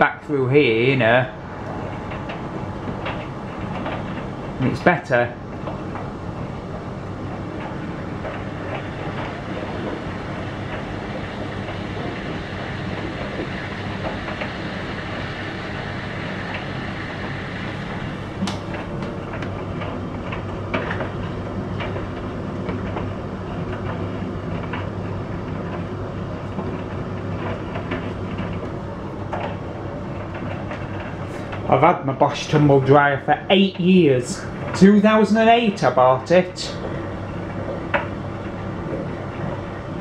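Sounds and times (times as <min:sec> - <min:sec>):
tumble dryer motor hum: 0:00.0 - 0:40.0.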